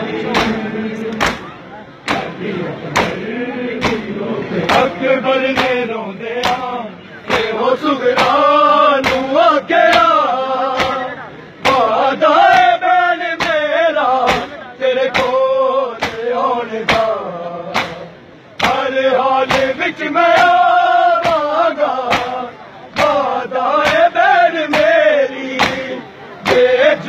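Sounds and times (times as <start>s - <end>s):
men chanting in unison: 0.0s - 27.0s.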